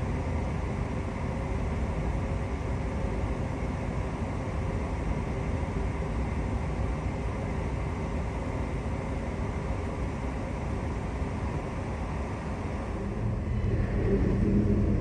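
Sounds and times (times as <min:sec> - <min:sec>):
faint electric hum: 0:00.0 - 0:15.0.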